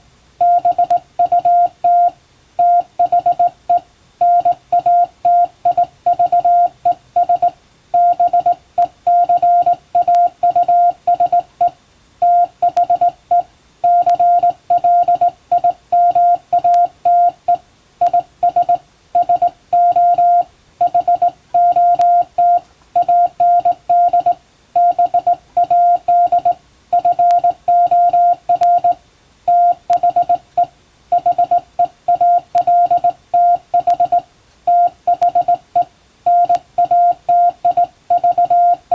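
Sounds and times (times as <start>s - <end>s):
morse code beeps: 0.4s - 38.9s.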